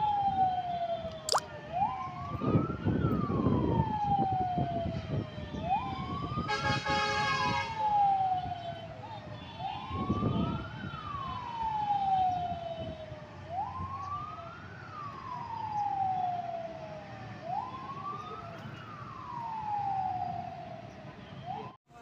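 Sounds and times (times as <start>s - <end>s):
fire truck siren wailing: 1.6s - 21.8s.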